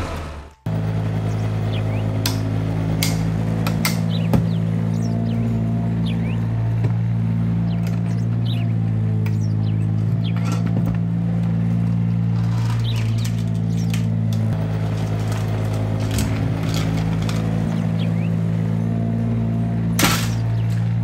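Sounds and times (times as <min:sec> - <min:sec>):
birds chirping: 0:00.0 - 0:21.0
tractor engine idling: 0:00.0 - 0:21.0.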